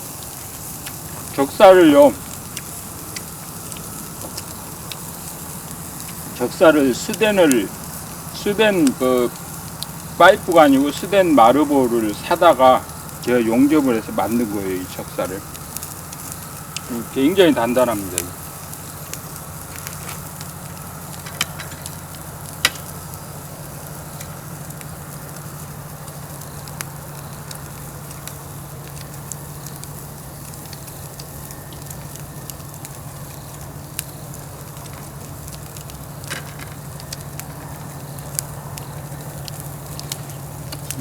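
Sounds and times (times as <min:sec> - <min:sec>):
meat sizzling on a grill: 0:00.0 - 0:41.0
steady low hum: 0:00.0 - 0:41.0
wood fire crackling and popping: 0:00.0 - 0:41.0.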